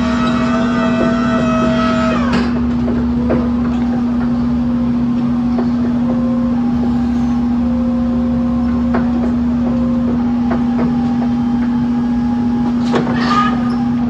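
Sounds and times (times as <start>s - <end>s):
electric truck hum: 0.0s - 14.0s.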